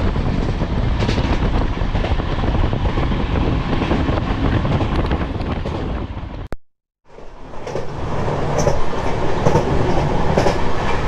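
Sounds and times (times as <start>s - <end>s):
train rumbling on track: 0.0s - 6.5s, 7.1s - 11.0s.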